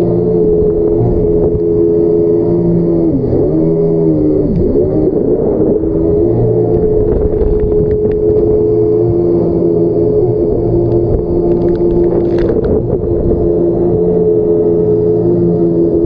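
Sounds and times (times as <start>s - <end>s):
jet ski engine at high revs: 0.0s - 16.0s.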